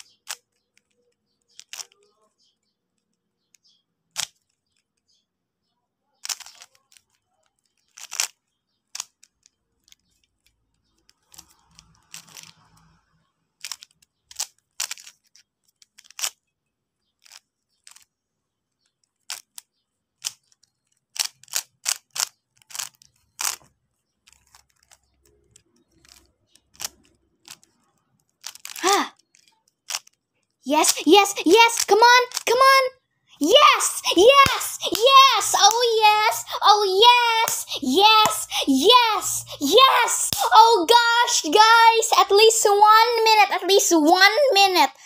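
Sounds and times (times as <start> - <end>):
rubik's cube clicking: 0.0 - 5.2, 6.2 - 32.8, 33.4 - 44.0.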